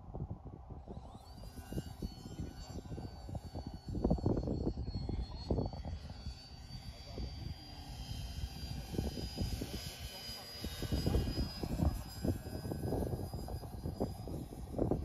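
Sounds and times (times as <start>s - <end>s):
model airplane motor whine: 0.0s - 15.0s
wind buffeting microphone: 0.0s - 15.0s.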